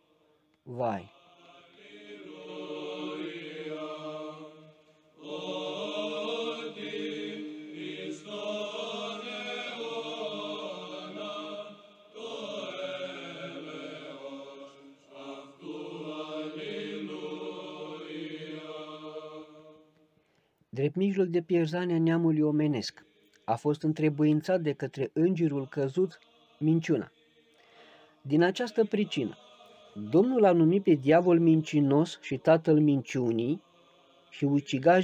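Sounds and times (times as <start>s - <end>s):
slow sung chant: 0.0s - 20.5s, 22.4s - 35.0s.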